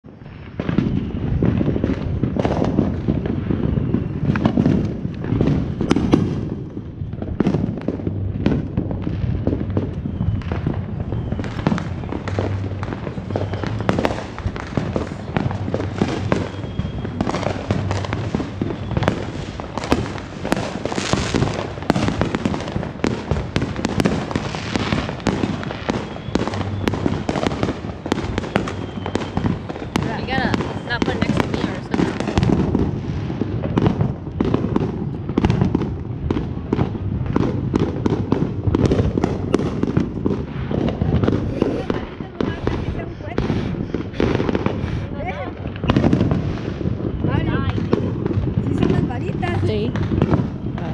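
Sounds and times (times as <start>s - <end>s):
fireworks popping and banging: 0.0s - 50.9s.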